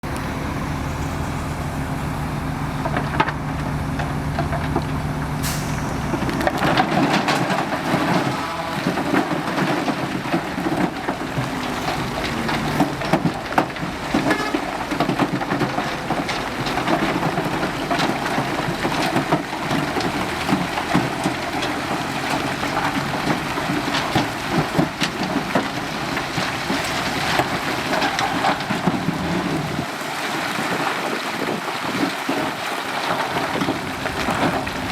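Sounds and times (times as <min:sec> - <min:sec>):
diesel engine running: 0:00.0 - 0:30.2, 0:33.0 - 0:34.9
soil and stones crunching and rattling: 0:00.0 - 0:34.9.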